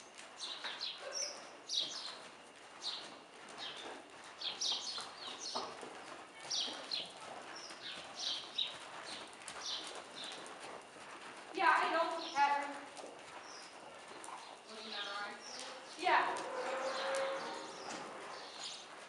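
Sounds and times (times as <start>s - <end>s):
horse hoofbeats on dirt: 0.0s - 19.0s.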